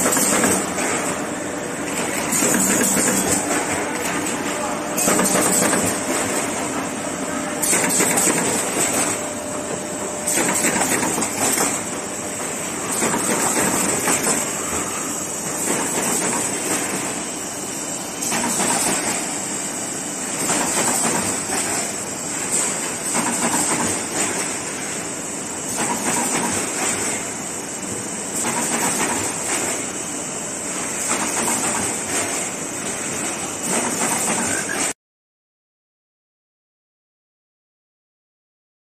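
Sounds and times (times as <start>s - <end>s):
machine mechanical clatter: 0.0s - 6.8s, 7.6s - 17.4s, 18.2s - 30.0s, 30.7s - 35.0s.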